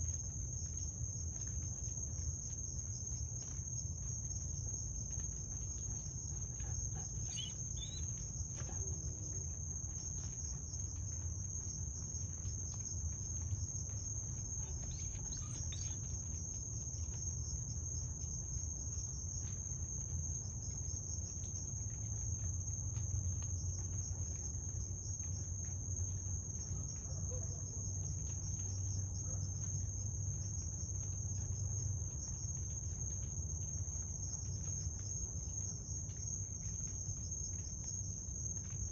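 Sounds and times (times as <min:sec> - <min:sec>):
crickets trilling: 0:00.0 - 0:38.9
low steady rumble: 0:00.0 - 0:38.9.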